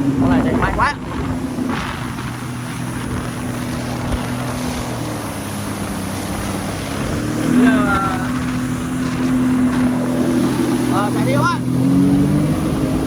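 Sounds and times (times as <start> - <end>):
jet ski engine humming: 0.0 - 13.0
wind and spray hiss: 0.0 - 13.0.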